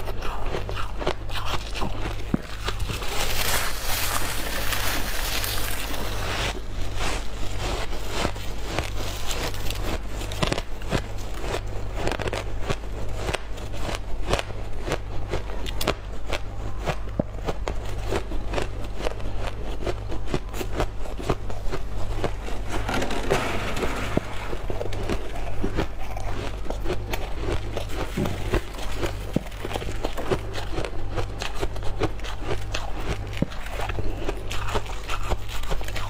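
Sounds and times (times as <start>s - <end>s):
chewing crunchy ice: 0.0s - 36.0s
steady low hum: 0.0s - 36.0s.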